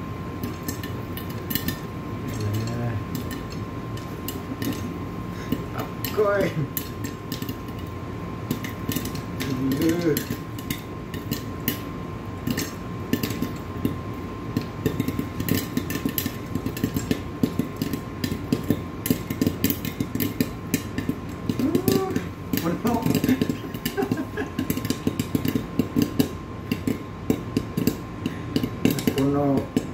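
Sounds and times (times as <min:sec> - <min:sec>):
popcorn popping in a saucepan: 0:00.0 - 0:29.9.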